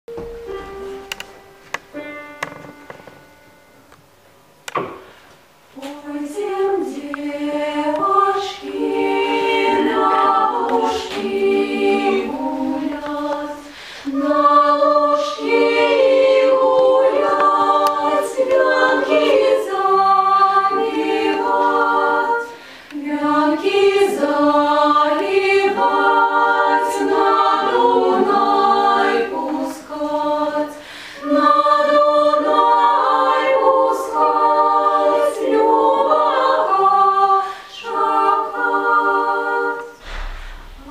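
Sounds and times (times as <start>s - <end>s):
women singing in harmony: 5.8s - 40.9s.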